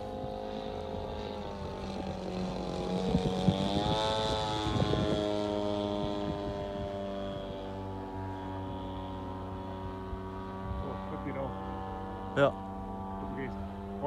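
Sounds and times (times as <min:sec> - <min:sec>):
model airplane motor droning: 0:00.0 - 0:14.0.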